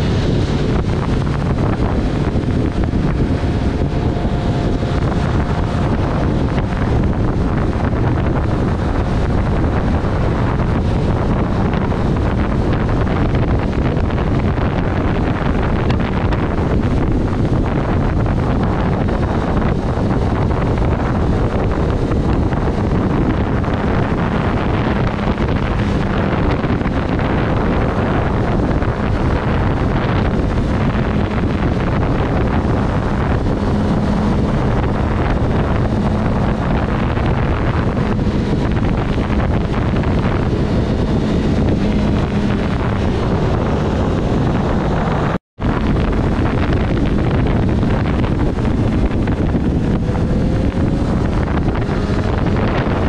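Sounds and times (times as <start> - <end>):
motorcycle engine hum: 0.0 - 53.0
wind rushing over microphone: 0.0 - 53.0.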